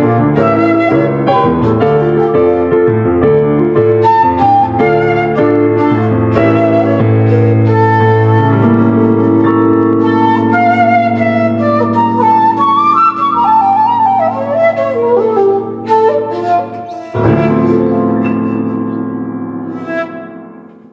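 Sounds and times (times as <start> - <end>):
shakuhachi flute melody: 0.0 - 20.9
sustained piano chords: 0.0 - 20.9.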